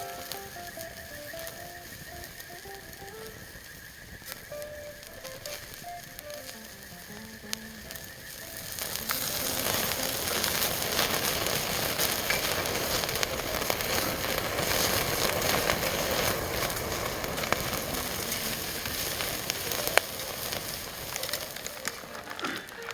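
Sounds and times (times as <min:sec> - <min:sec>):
faint background music: 0:00.0 - 0:13.9, 0:17.4 - 0:22.9
fire crackles and pops: 0:00.0 - 0:22.9
food sizzling in hot fat: 0:00.0 - 0:22.9.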